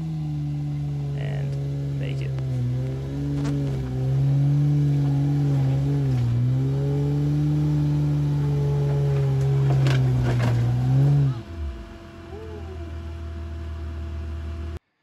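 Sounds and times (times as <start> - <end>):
engine revving high: 0.0 - 14.8.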